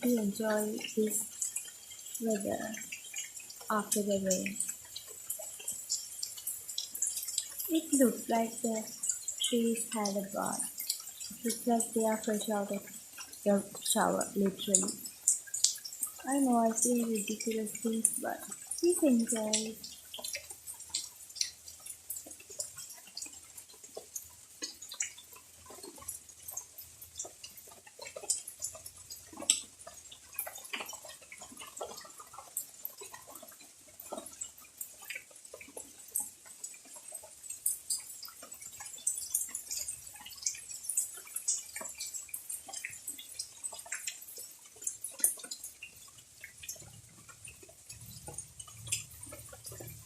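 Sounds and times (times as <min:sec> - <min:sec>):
raindrops dripping: 0:00.0 - 0:50.0.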